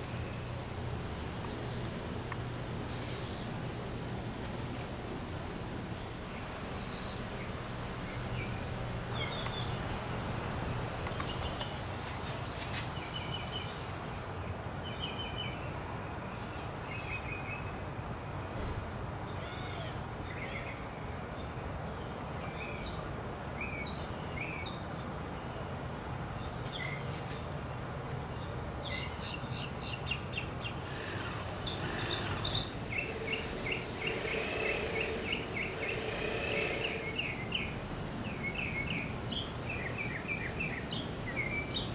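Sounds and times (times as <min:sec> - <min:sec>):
songbirds chirping: 0:00.0 - 0:17.8, 0:19.2 - 0:41.9
low background noise: 0:00.0 - 0:41.9.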